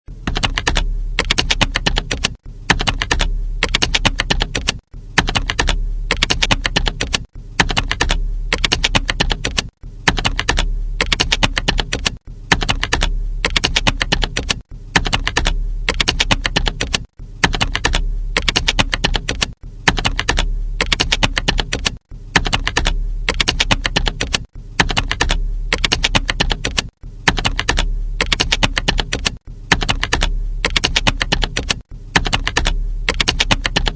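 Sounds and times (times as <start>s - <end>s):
keyboard typing clicks: 0.2s - 33.9s.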